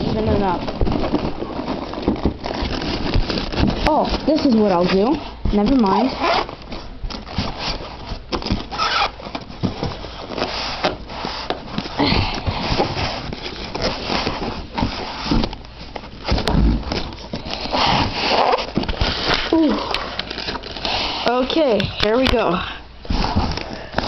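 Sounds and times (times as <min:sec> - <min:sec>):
packaging rustling and scraping: 0:00.0 - 0:24.0.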